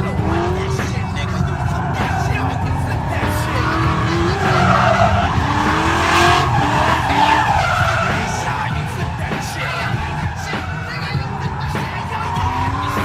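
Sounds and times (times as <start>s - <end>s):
car engine running hard: 0.0s - 13.0s
tires squealing: 0.0s - 13.0s.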